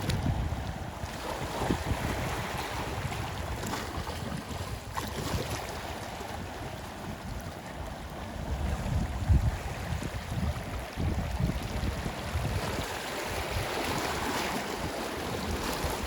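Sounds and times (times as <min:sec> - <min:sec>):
sea waves washing on shore: 0:00.0 - 0:16.0
wind rumbling on microphone: 0:00.0 - 0:16.0.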